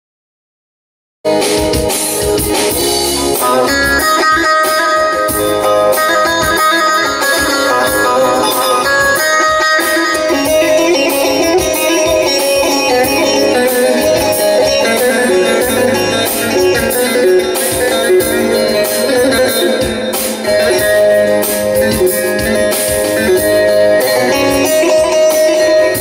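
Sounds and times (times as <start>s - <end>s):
electric lute picked rapidly: 1.3s - 26.0s
held keyboard notes: 1.3s - 26.0s.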